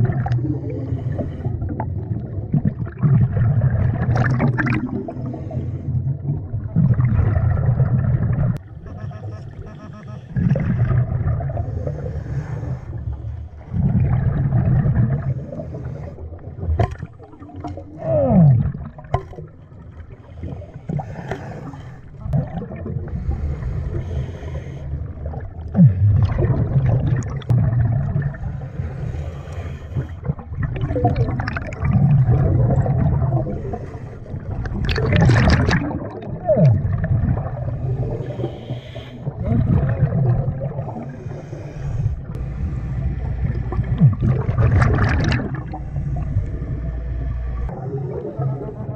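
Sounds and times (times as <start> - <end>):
underwater breathing bubbles: 0.0 - 48.9.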